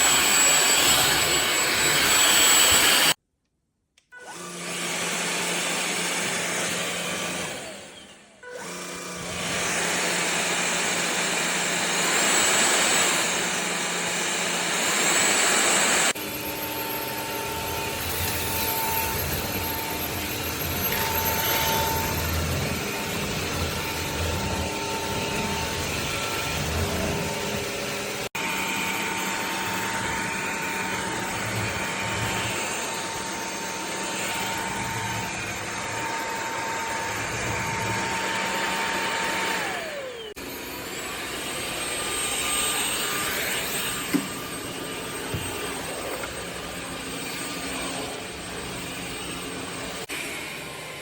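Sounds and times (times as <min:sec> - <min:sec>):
vacuum motor whine: 0:00.0 - 0:03.2, 0:04.2 - 0:51.0.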